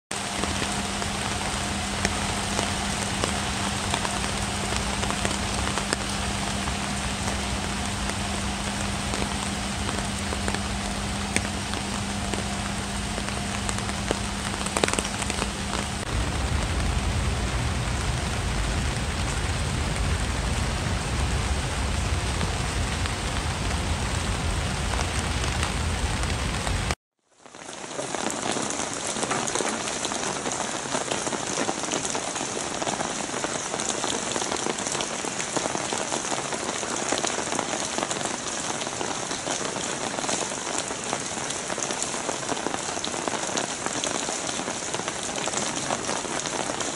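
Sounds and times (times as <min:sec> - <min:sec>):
rain falling on wet ground: 0:00.1 - 0:46.9.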